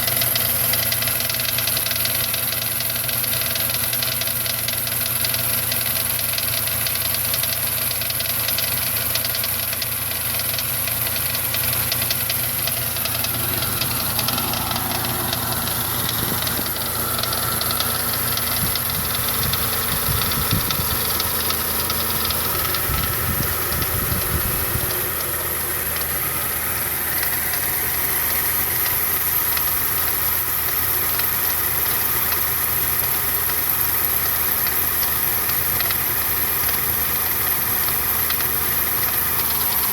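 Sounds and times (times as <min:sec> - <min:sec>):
engine running with knock: 0:00.0 - 0:39.9.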